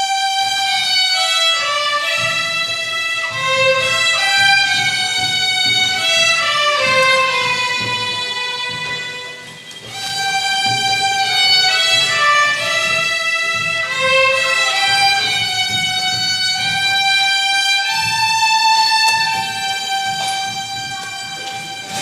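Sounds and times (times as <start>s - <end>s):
violin-led ensemble music: 0.0s - 22.0s.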